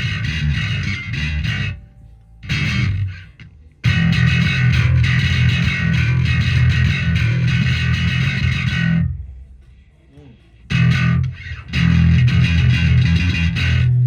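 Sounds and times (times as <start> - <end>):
distorted electric bass notes: 0.0 - 9.5, 10.7 - 14.0.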